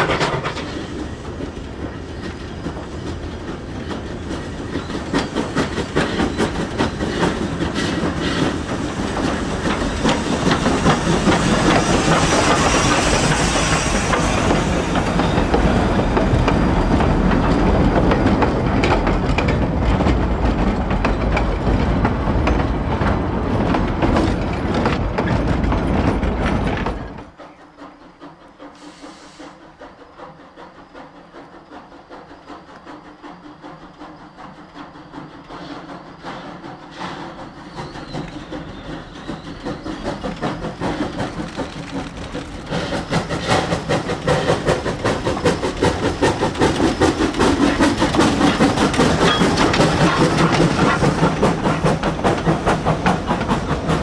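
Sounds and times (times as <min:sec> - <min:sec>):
steam hiss: 0:00.0 - 0:19.2, 0:27.2 - 0:54.0
train wheels clicking over rail joints: 0:00.0 - 0:54.0.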